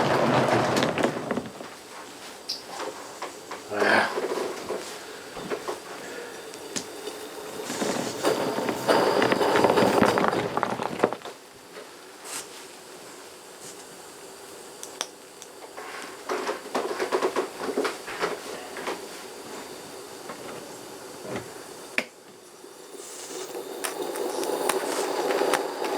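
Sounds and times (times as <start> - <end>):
steam locomotive exhaust hissing: 1.8 - 10.6, 11.8 - 25.9.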